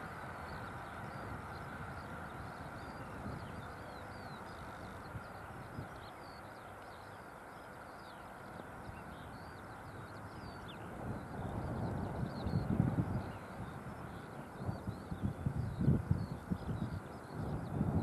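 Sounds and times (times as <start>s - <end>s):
distant train: 0.0s - 15.4s
songbirds chirping: 0.0s - 18.0s
wind rumbling on microphone: 0.0s - 18.0s.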